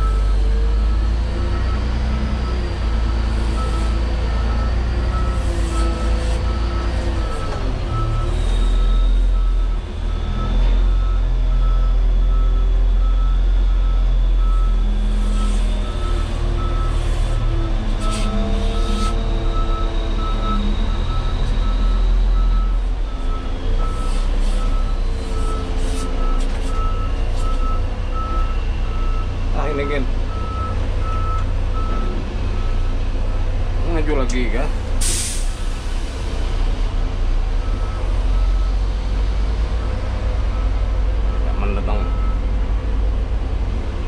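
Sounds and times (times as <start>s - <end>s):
truck reversing alarm beeping: 0.0s - 36.1s, 37.5s - 42.6s
diesel engine droning: 0.0s - 44.0s.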